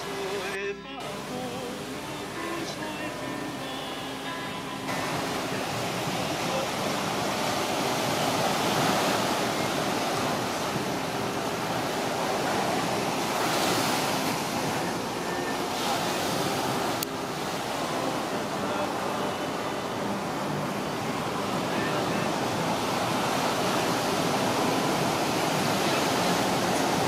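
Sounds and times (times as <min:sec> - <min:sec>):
small waves washing onto beach: 0:00.0 - 0:27.0
wind on microphone: 0:04.8 - 0:27.0.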